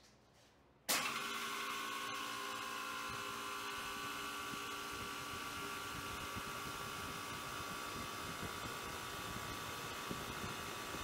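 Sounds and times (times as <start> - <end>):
machine hum and whine: 0.9 - 11.0.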